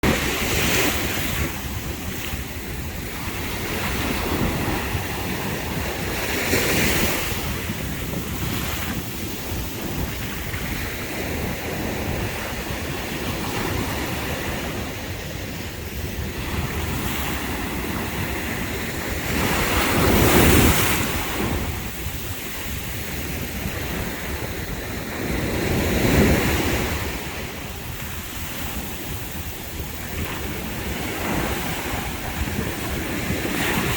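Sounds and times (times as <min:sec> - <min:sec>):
waves washing onto beach: 0:00.0 - 0:33.9
wind buffeting microphone: 0:00.0 - 0:33.9.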